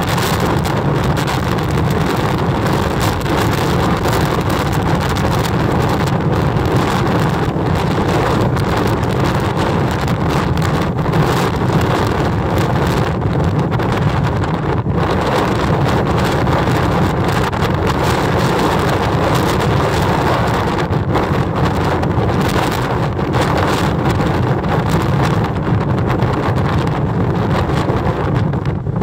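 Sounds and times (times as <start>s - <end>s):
storm wind buffeting microphone: 0.0s - 29.0s.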